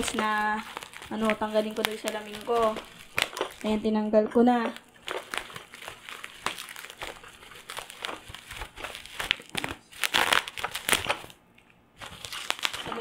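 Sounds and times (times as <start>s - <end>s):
bubble wrap crinkling: 0.0s - 11.4s, 12.0s - 13.0s.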